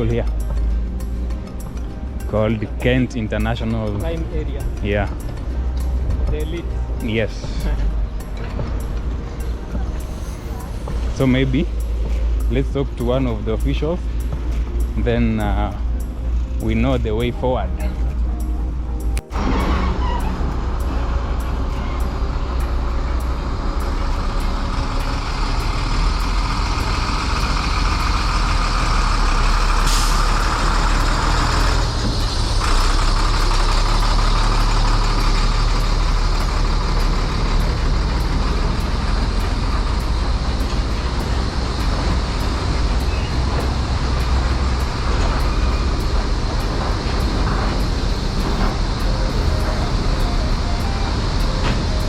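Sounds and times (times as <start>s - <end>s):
heavy road traffic rumble: 0.0s - 52.0s.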